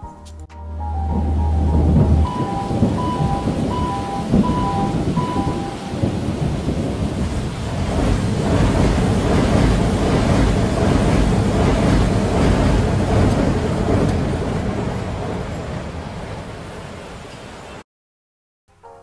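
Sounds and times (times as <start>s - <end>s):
low rumble of thunder: 0.9s - 17.1s
steady rain: 0.9s - 17.8s.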